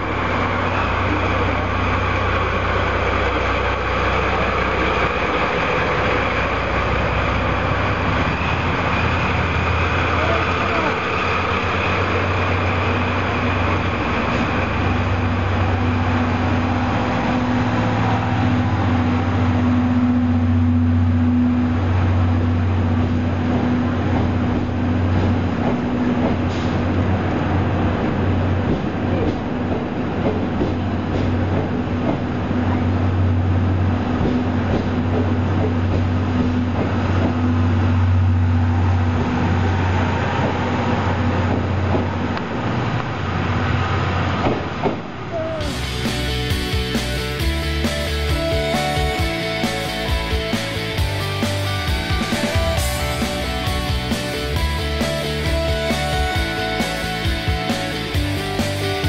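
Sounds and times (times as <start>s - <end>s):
steady low hum: 0.0s - 59.0s
train rolling slowly: 0.0s - 59.0s.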